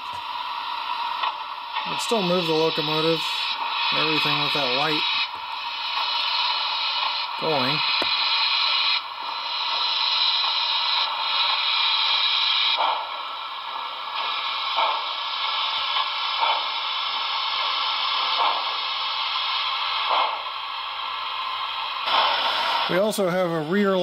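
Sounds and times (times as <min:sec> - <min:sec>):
soft steam puffs: 0:00.0 - 0:24.0
steam hiss from small speaker: 0:00.0 - 0:24.0.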